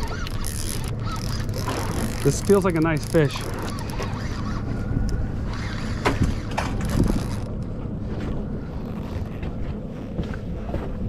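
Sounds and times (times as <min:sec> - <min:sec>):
boat engine idling: 0:00.0 - 0:11.0
wind buffeting microphone: 0:00.9 - 0:11.0.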